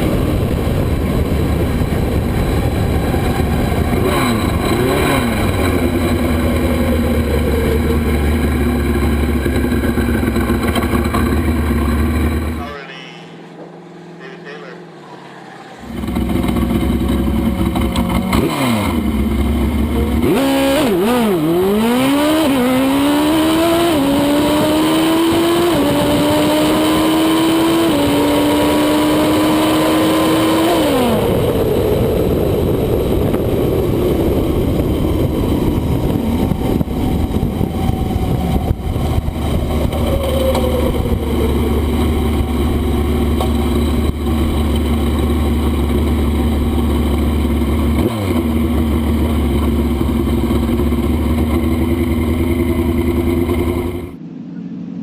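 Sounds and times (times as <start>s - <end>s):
motorcycle engine accelerating hard: 0.0s - 12.8s, 15.8s - 54.3s
motorcycle rolling rushing noise: 0.0s - 55.0s.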